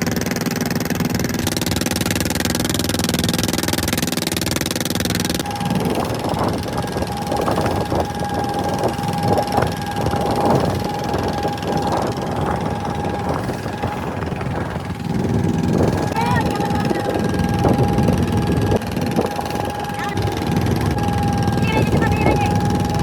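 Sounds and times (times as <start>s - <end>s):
boat engine running: 0.0s - 23.0s
engine whine: 0.0s - 23.0s.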